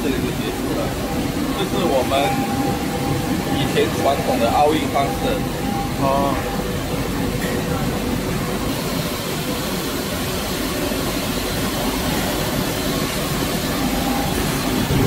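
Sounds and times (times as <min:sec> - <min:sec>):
printing press running: 0:00.0 - 0:15.0.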